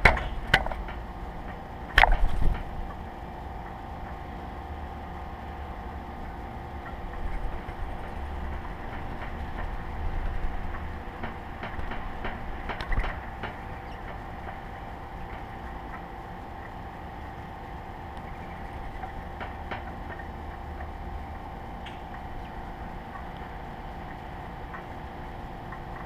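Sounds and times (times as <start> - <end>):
faint hum: 0.0 - 26.0.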